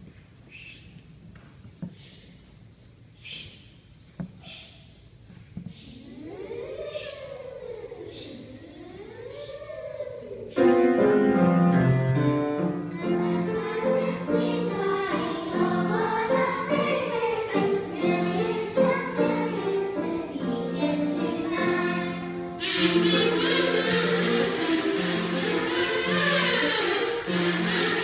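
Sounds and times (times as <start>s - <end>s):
children's choir singing: 4.0s - 28.0s.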